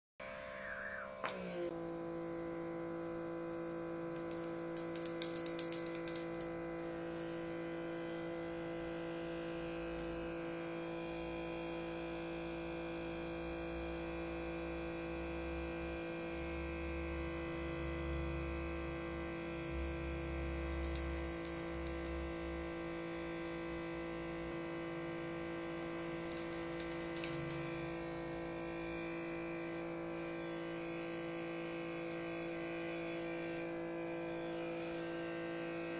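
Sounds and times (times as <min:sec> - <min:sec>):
small motor humming: 0:00.2 - 0:35.9.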